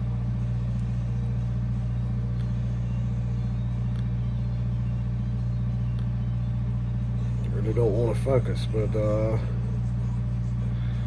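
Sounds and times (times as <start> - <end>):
low electrical hum of machinery: 0.0 - 11.0.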